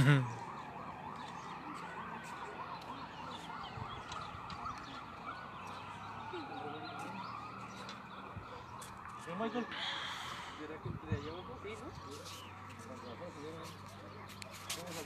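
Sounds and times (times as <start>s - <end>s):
distant siren yelp and wail: 0.0s - 13.6s.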